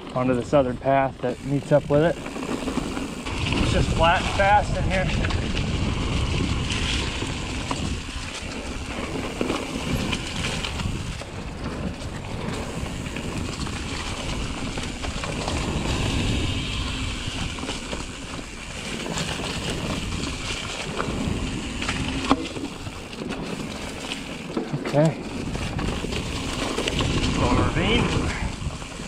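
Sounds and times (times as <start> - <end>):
bike clicks and rattles: 0.0 - 29.0
tyres rolling over dirt and leaves: 0.0 - 29.0
wind rushing over microphone: 1.4 - 23.8, 25.2 - 29.0.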